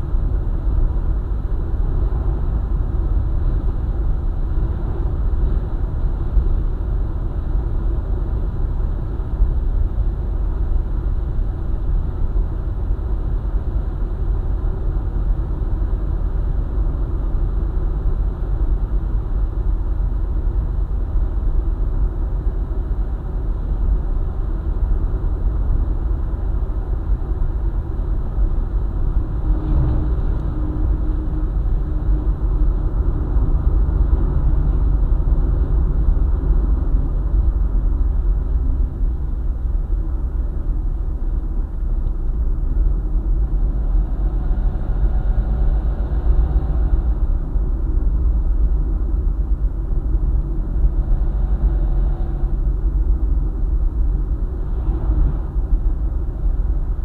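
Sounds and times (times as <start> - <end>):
car driving on highway: 0.0 - 57.0.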